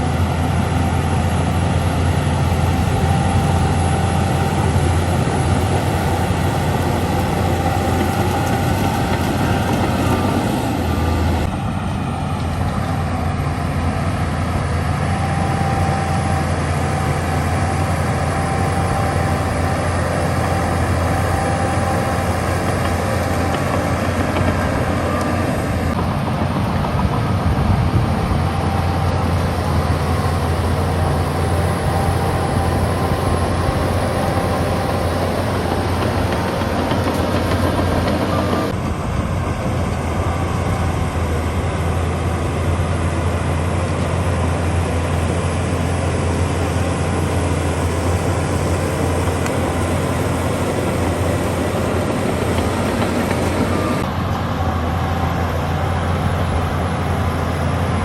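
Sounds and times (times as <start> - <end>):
heavy machinery engine drone: 0.0 - 58.0.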